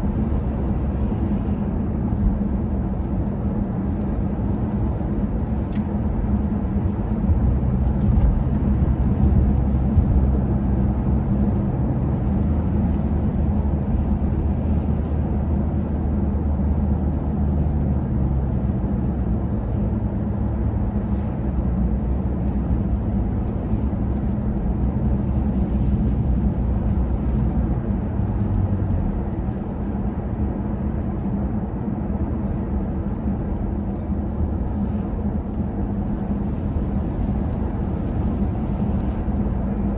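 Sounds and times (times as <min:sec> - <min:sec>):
city street rumble: 0:00.0 - 0:39.9
constant low hum: 0:00.0 - 0:39.9.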